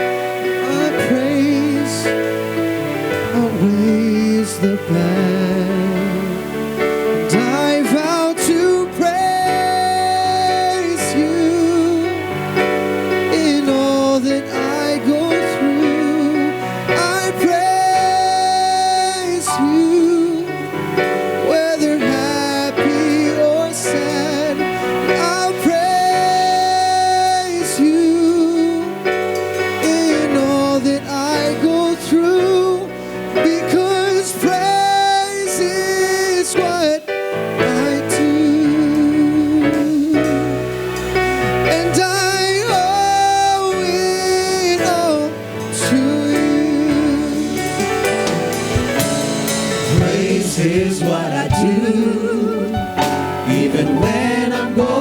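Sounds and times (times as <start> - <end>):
instrumental accompaniment: 0.0 - 55.0.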